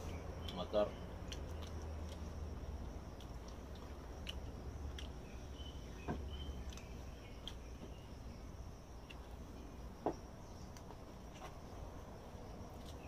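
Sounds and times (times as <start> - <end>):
insects chirring: 0.0 - 13.0
low steady hum: 0.0 - 13.0.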